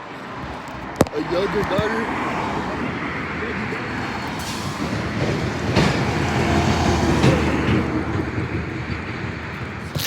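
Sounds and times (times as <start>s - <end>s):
rumbling vehicle noise: 0.0s - 10.0s.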